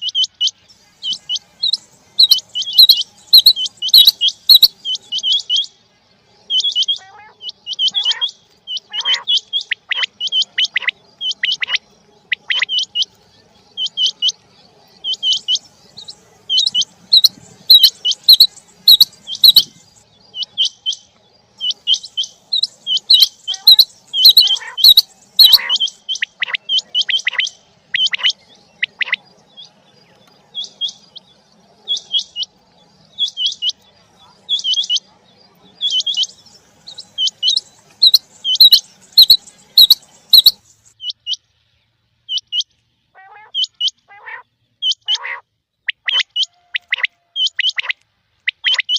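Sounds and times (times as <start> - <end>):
quail chirping: 0.0 - 5.8, 6.4 - 41.5, 42.2 - 48.9.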